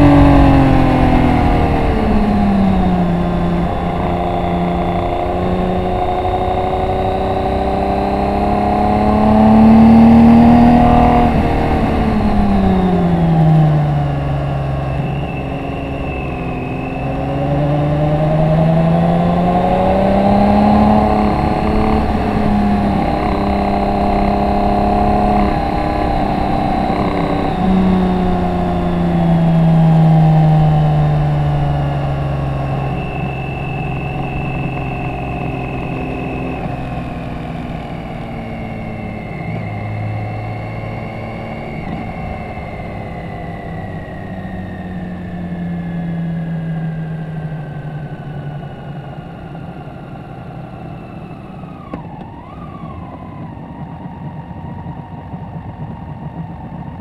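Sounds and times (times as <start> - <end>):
wind noise: 0.0 - 47.0
motorcycle engine revving: 0.0 - 57.0.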